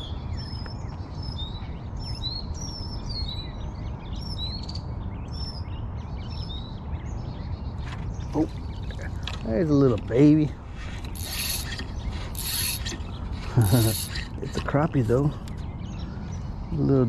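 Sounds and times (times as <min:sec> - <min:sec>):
birds chirping and whistling: 0:00.0 - 0:17.0.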